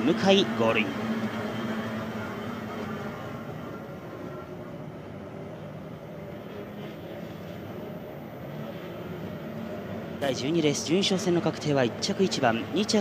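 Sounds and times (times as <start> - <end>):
distant outboard engines droning: 0.0 - 13.0.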